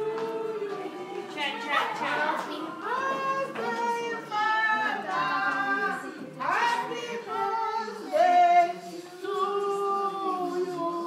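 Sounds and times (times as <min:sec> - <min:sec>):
group singing birthday song: 0:00.0 - 0:11.0.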